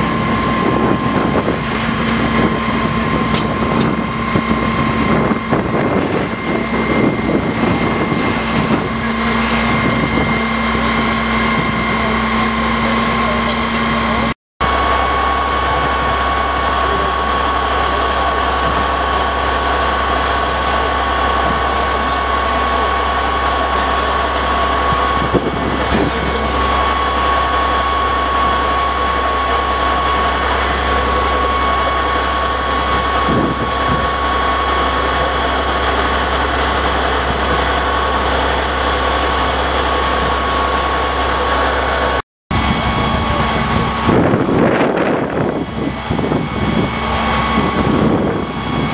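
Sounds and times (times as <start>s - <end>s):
steady high whine: 0.0s - 48.9s
truck engine idling: 0.0s - 48.9s.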